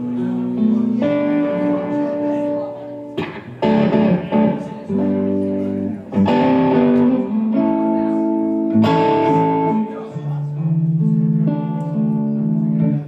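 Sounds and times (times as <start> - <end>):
electric guitar chords: 0.0 - 13.0.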